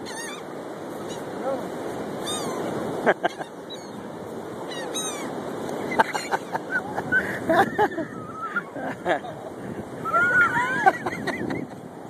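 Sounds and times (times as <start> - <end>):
seagulls calling: 0.0 - 1.6, 2.2 - 9.0, 10.0 - 11.7
wind and surf hiss: 0.0 - 12.0.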